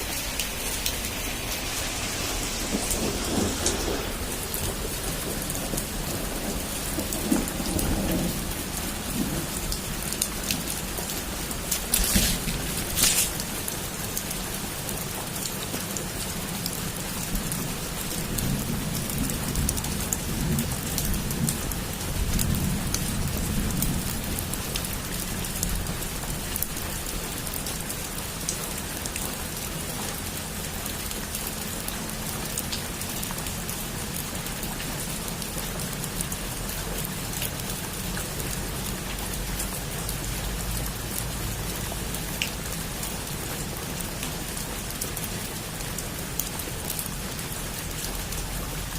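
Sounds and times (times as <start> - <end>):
heavy rain on a roof: 0.0 - 48.9.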